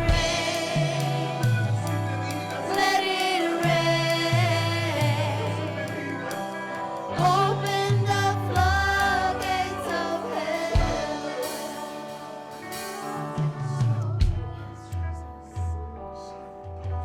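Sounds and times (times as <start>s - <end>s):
singers holding long notes: 0.0s - 14.9s
worship band with bass and drums: 0.0s - 17.0s.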